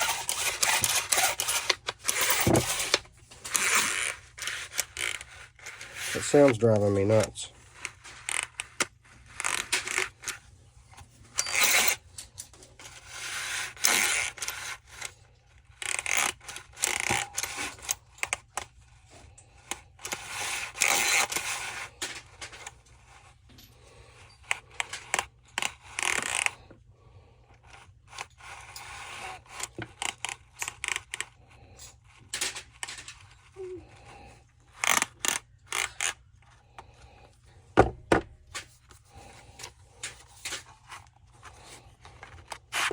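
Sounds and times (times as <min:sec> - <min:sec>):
tools scraping and clattering: 0:00.0 - 0:15.2, 0:20.1 - 0:26.6, 0:28.1 - 0:36.6, 0:37.7 - 0:42.9.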